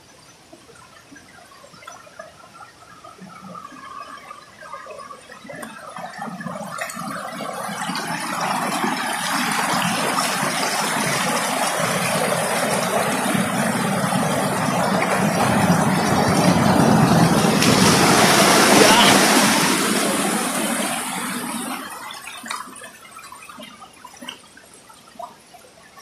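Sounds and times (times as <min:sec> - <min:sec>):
stream rushing over boulders: 0:00.6 - 0:26.0.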